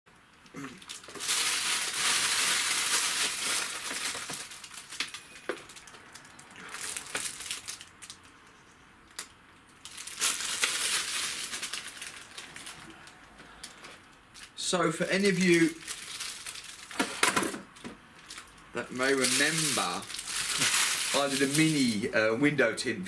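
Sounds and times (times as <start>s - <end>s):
plastic wrapping crinkling: 0.6s - 8.4s, 9.1s - 22.1s.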